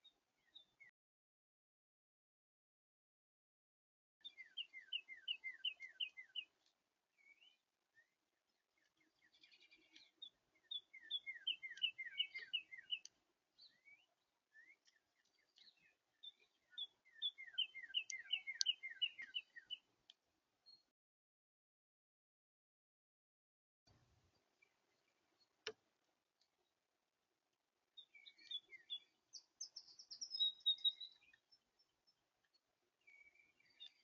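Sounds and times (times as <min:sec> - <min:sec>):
songbird singing: 0:00.0 - 0:00.9, 0:04.2 - 0:20.9, 0:24.3 - 0:34.0.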